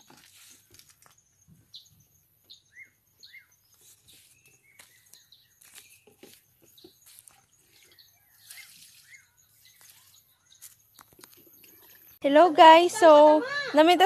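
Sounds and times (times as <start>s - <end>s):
small birds chirping: 0.3s - 14.0s.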